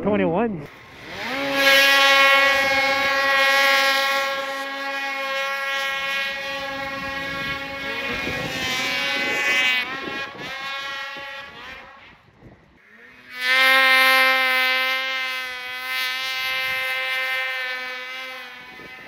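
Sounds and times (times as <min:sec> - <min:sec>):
snowmobile engine at high revs: 0:00.6 - 0:19.0.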